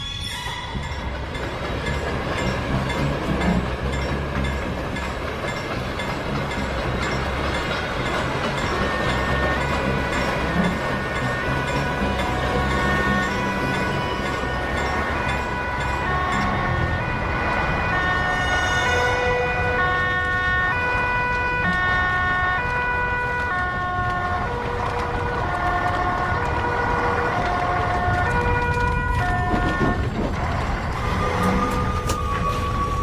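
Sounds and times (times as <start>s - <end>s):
two-tone fire engine sirens: 6.4s - 33.0s.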